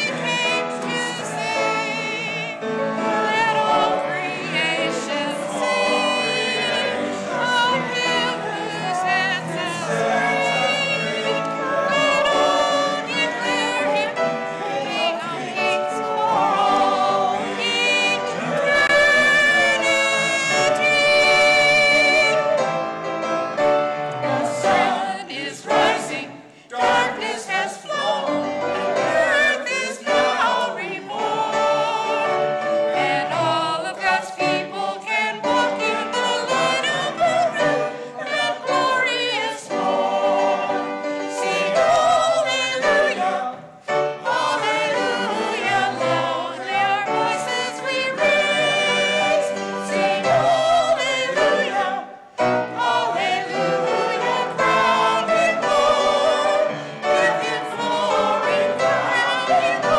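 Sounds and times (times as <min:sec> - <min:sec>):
church choir singing in parts: 0:00.0 - 0:59.9.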